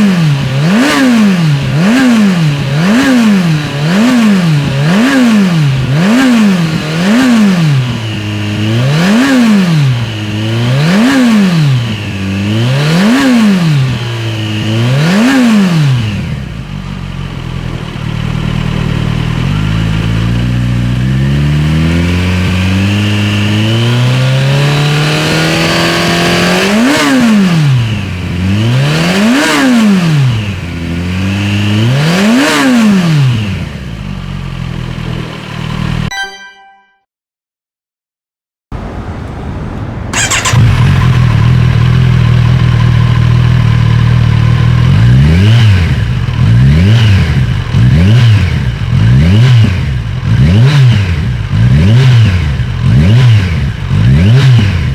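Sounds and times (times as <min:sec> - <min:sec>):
motorcycle exhaust revving: 0:00.0 - 0:36.1, 0:40.1 - 0:54.9.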